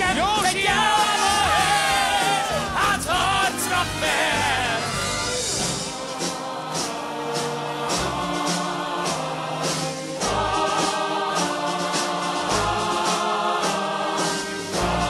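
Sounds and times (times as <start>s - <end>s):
choir singing: 0.0s - 15.0s
orchestra playing: 0.5s - 15.0s.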